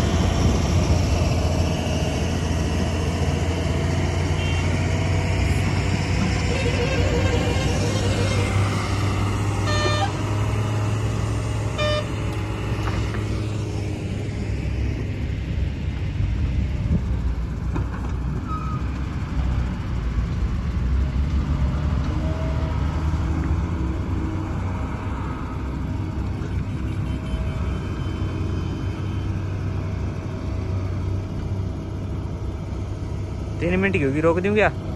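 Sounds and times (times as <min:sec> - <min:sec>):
excavator working: 0:00.0 - 0:34.9
truck engines rumbling: 0:00.0 - 0:34.9.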